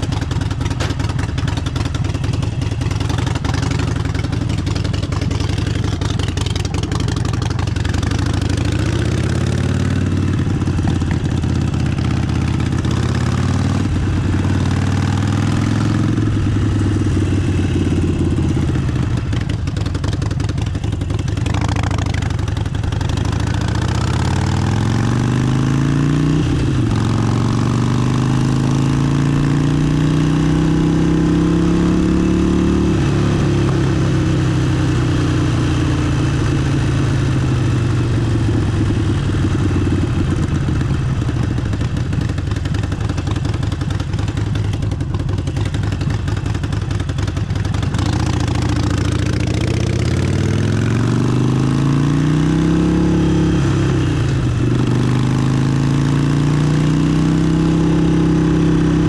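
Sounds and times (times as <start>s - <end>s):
motorcycle accelerating through gears: 0.0s - 59.0s.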